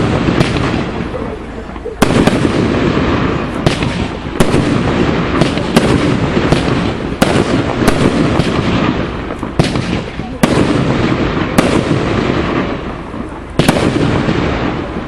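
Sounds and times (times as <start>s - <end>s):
rumble and crackle of fireworks: 0.0s - 15.0s.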